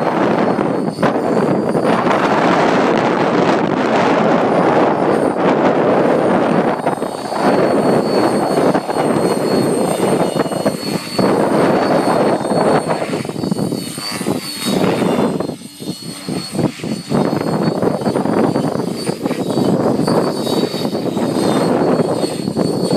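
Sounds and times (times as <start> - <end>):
rc helicopter engine buzzing: 0.0 - 22.9.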